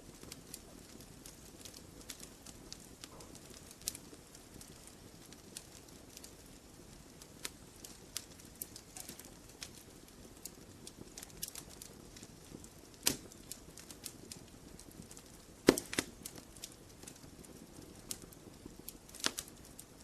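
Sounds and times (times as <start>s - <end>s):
campfire snapping and popping: 0.0s - 20.0s
low steady fire hiss: 0.0s - 20.0s.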